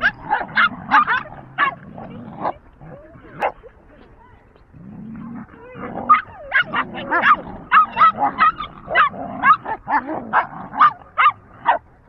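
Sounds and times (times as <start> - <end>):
dogs yipping and yelping: 0.0 - 3.7, 5.8 - 11.8.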